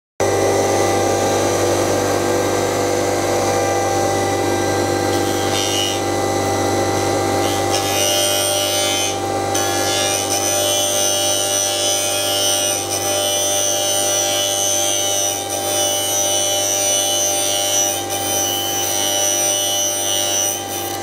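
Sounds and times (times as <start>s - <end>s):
pipe-threading machine motor hum: 0.2s - 19.7s
harsh high-pitched machine noise: 0.2s - 21.0s.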